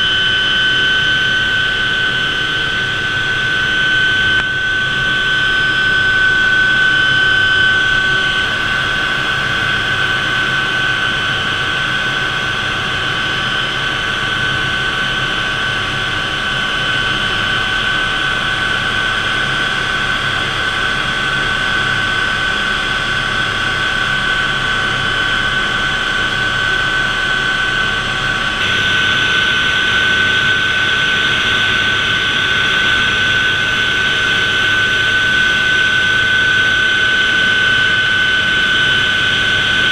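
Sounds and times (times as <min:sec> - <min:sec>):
helicopter turbine whine: 0:00.0 - 0:39.9
rotor and airflow noise: 0:00.0 - 0:39.9.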